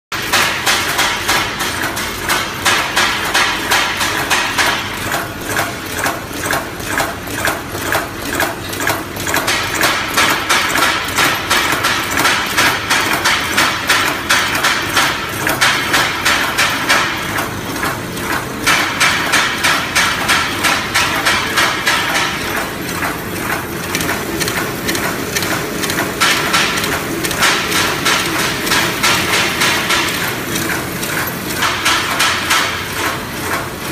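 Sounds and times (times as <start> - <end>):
packing machine clattering: 0.2 - 33.9.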